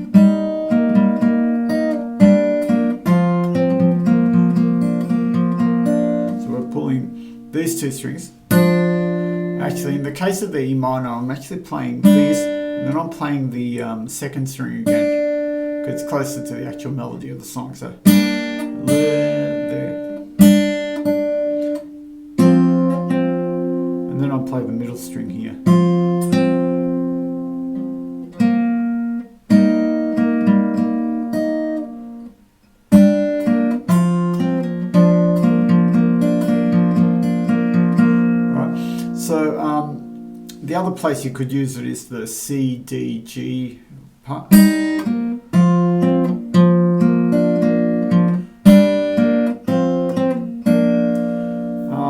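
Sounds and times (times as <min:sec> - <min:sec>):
fingerpicked acoustic guitar: 0:00.0 - 0:42.0, 0:42.7 - 0:52.0.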